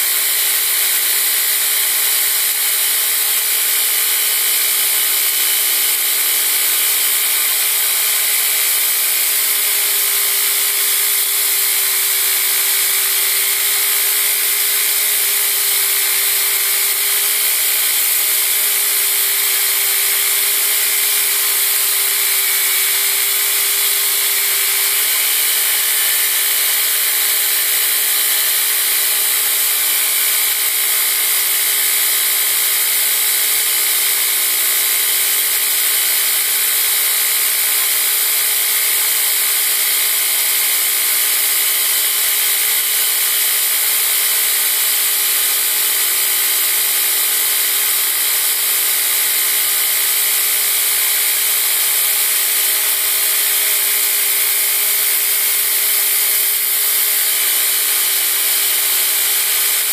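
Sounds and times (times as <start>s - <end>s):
belt grinder grinding steel: 0.0s - 59.9s.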